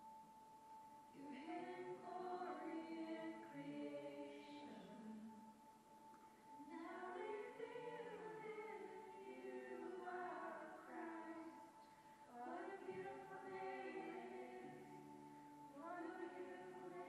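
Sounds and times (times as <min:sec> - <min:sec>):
faint choir singing: 0:00.0 - 0:17.0.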